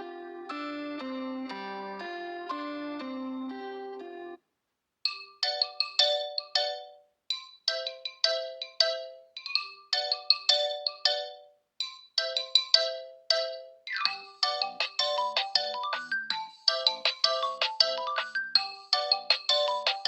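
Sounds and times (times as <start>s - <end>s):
phone ringtone melody: 0.0s - 4.4s, 5.1s - 20.0s.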